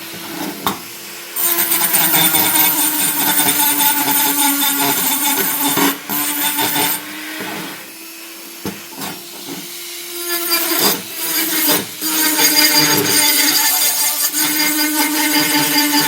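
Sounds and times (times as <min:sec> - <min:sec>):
power tool grinding metal: 0:00.0 - 0:16.0.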